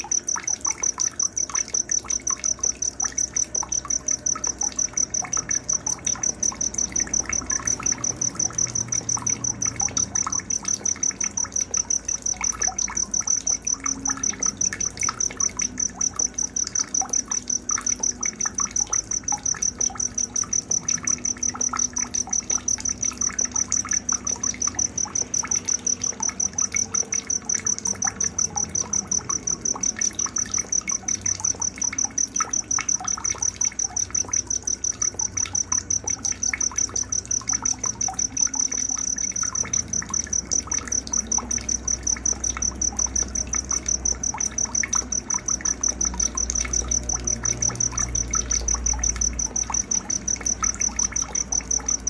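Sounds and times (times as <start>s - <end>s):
faint trickle of water: 0.0s - 52.0s
insect chirping: 0.0s - 52.0s.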